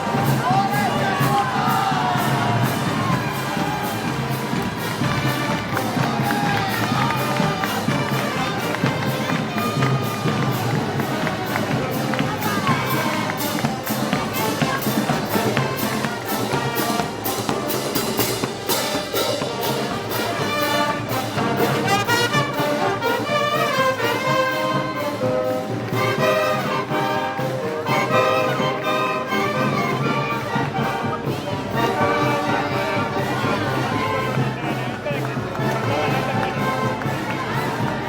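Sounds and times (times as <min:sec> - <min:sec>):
brass band playing march: 0:00.0 - 0:38.0.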